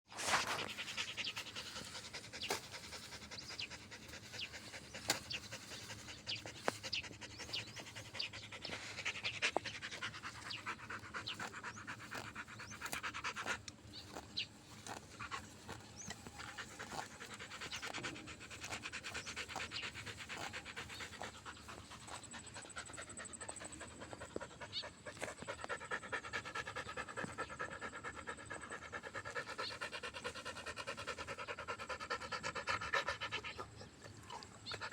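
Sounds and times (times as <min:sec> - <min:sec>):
dog panting rapidly: 0:00.2 - 0:34.9.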